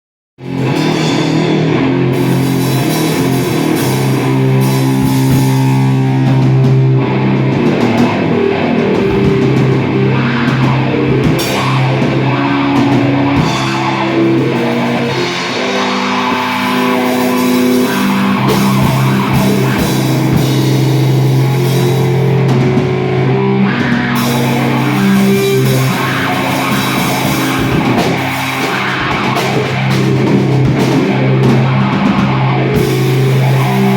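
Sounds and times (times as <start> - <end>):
bass guitar: 0.4 - 33.9
drum kit: 0.4 - 33.9
electric guitar: 0.4 - 33.9.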